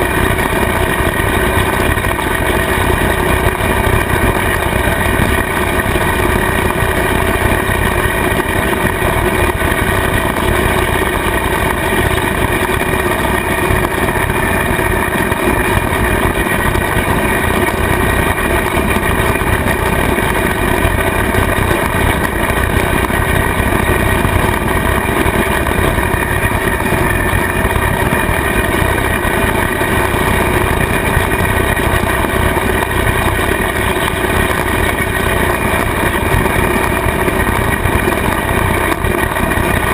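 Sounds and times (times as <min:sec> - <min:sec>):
rotary cutter mowing grass: 0:00.0 - 0:39.9
tractor diesel engine: 0:00.0 - 0:39.9.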